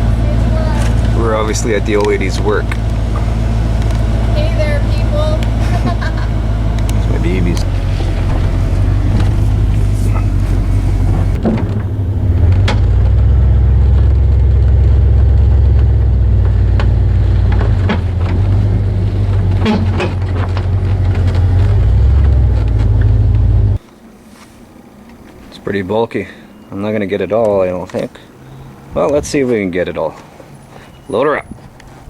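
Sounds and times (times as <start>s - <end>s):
vehicle engine and road drone: 0.0s - 32.0s.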